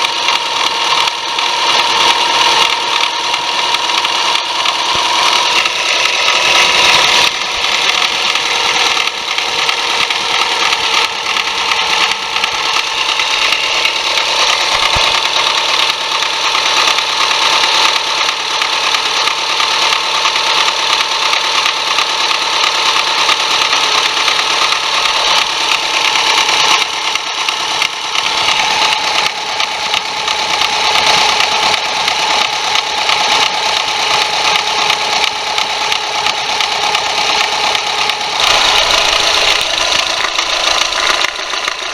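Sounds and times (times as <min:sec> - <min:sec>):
car engine whining: 0:00.0 - 0:41.9.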